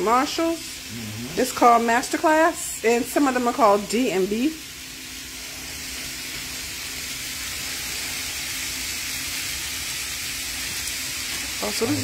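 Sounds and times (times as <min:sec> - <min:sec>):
vegetables sizzling in skillet: 0:00.0 - 0:12.0.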